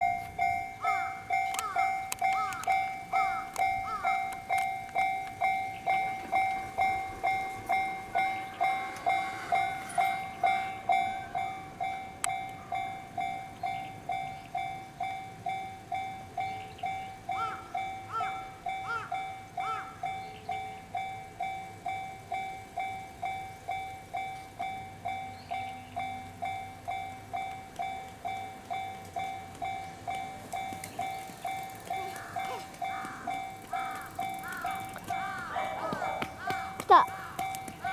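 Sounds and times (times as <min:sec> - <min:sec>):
level-crossing alarm bell ringing: 0:00.0 - 0:37.9
train passing: 0:00.0 - 0:37.9.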